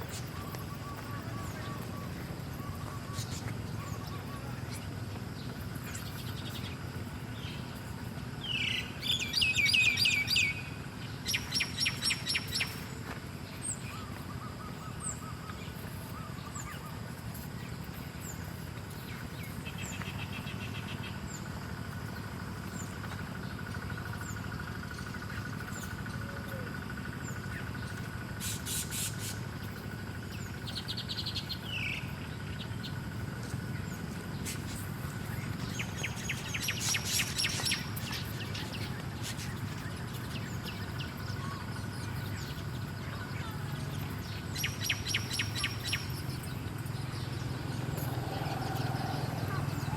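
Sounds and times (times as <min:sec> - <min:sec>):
songbirds chirping and trilling: 0:00.0 - 0:49.9.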